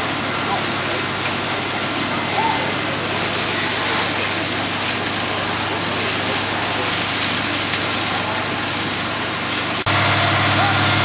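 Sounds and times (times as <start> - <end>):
hoses spraying water: 0.0 - 11.0
low engine hum: 0.0 - 11.0.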